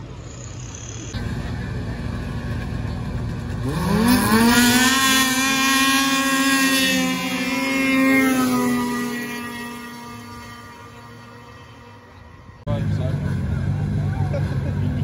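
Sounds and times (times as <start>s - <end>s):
snowmobile engines revving: 1.0s - 15.0s.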